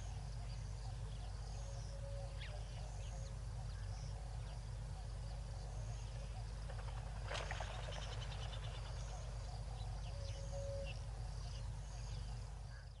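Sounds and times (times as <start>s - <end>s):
frogs and insects chirping: 0.0s - 13.0s
steady low hum: 0.0s - 13.0s.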